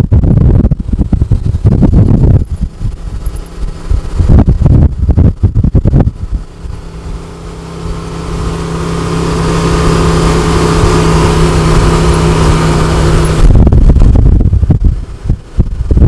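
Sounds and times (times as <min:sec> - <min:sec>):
choppy wind buffeting: 0:00.0 - 0:16.0
utility vehicle engine droning: 0:00.0 - 0:16.0
wind rush on microphone: 0:00.0 - 0:16.0.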